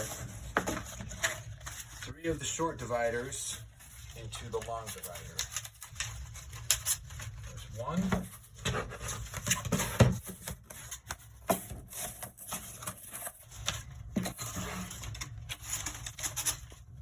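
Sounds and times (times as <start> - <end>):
cardboard rustling and scraping: 0.0 - 17.0.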